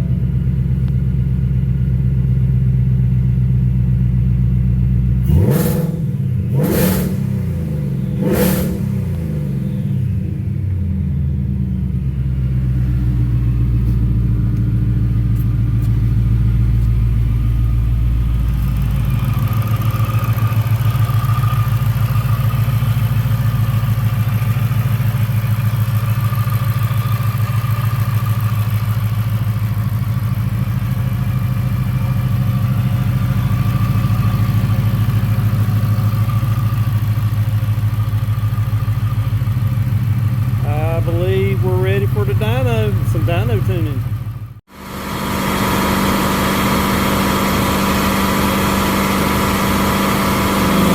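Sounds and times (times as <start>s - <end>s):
supercharged car engine idling: 0.0s - 50.9s.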